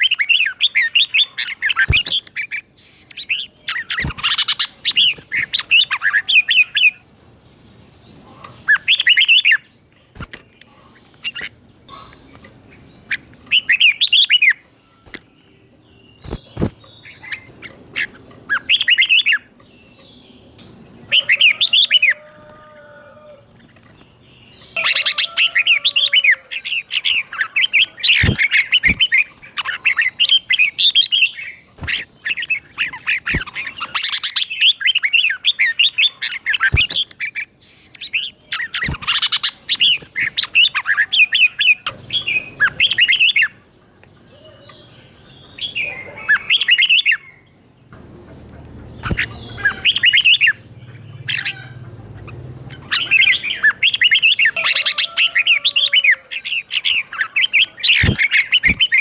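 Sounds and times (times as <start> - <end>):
birds warbling: 0.0 - 59.0.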